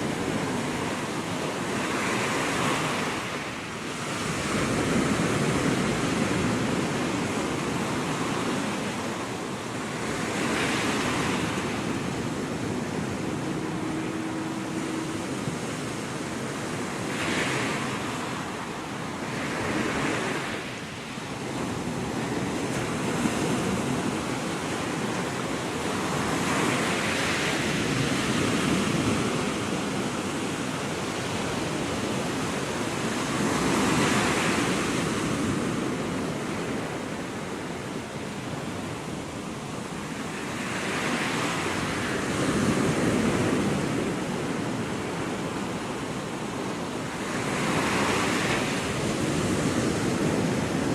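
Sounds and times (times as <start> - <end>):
small waves breaking on sand: 0.0 - 50.9
wind on microphone: 0.0 - 50.9.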